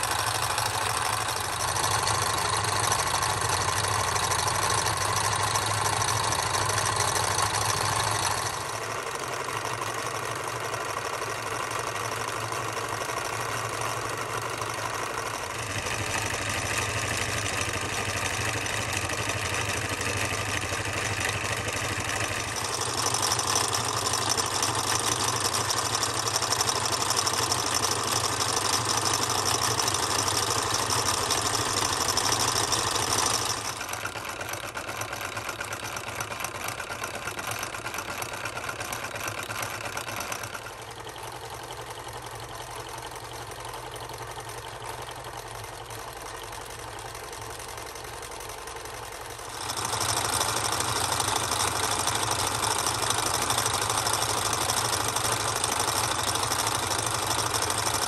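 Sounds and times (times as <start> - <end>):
toy engine mechanical clatter: 0.0 - 58.0.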